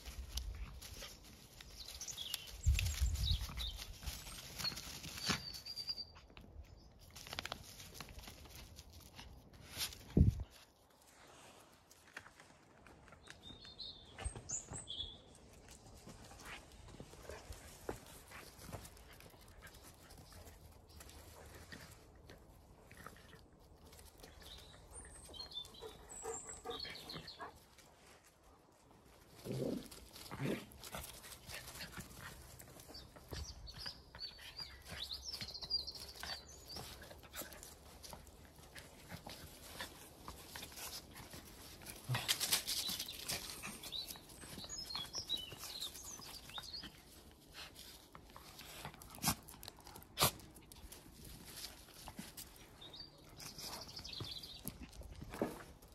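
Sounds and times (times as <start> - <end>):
dogs scuffling on grass: 0.0 - 55.9.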